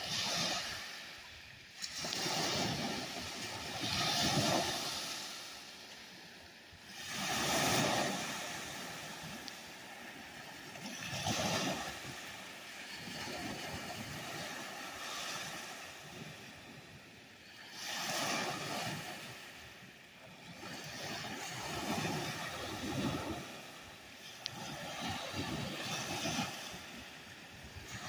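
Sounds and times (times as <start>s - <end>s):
small waves breaking on shore: 0.0s - 28.0s.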